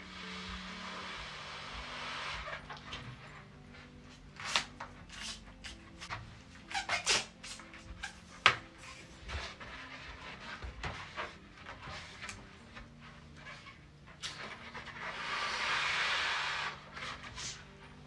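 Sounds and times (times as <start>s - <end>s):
rubber balloon squeaks and rubs: 0.0s - 18.0s.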